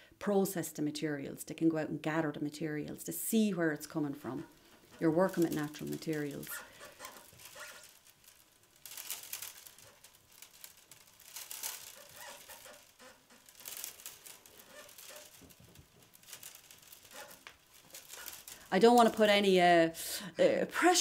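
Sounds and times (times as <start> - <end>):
willow rods rustling and scraping: 3.4 - 20.5.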